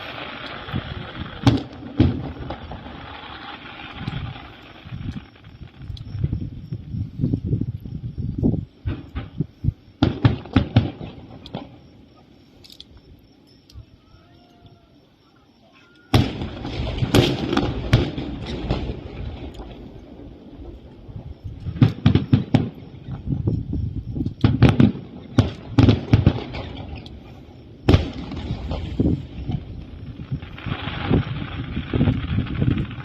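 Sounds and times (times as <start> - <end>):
fireworks bursting: 0.0 - 12.7, 15.4 - 33.0.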